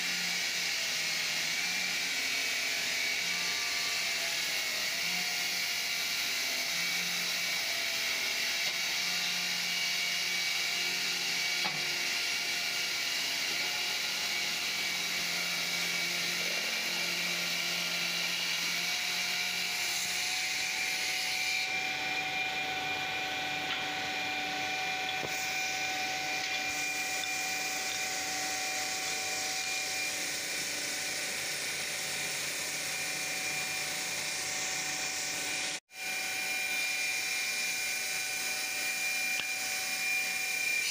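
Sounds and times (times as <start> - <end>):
tile saw cutting stone: 0.0 - 40.9.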